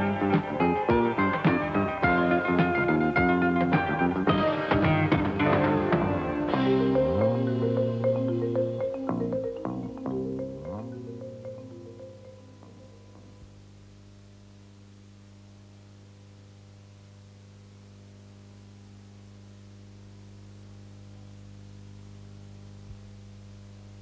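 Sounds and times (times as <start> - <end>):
low mains hum: 0.0 - 24.0.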